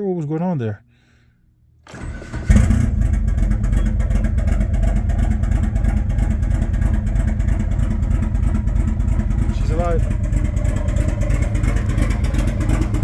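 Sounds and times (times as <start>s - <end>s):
car engine cranking and starting: 1.8s - 13.0s.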